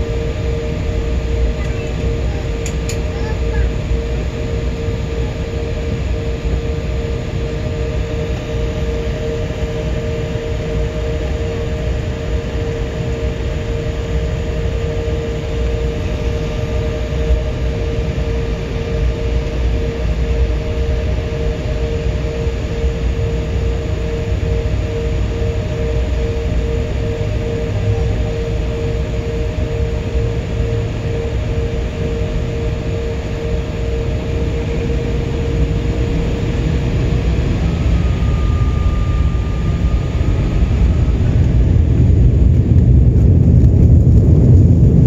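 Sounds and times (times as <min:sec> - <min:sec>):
jet engines idling: 0:00.0 - 0:45.0.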